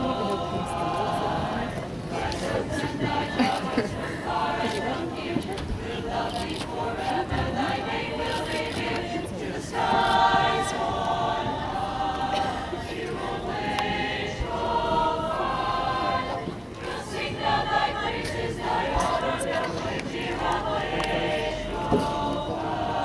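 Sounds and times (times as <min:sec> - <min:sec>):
mixed choir singing: 0:00.0 - 0:23.0.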